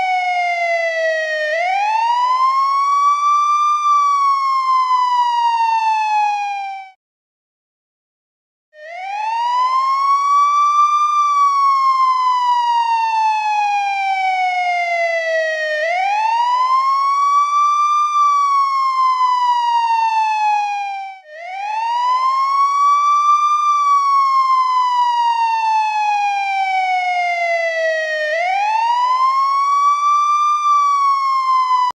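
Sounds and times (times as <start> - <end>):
police siren wailing: 0.0 - 7.0, 8.8 - 32.0.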